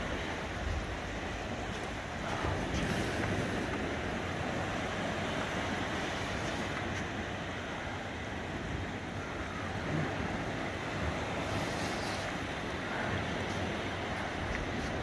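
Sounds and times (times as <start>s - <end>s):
small waves washing on beach: 0.0s - 15.0s
wind on microphone: 0.0s - 15.0s.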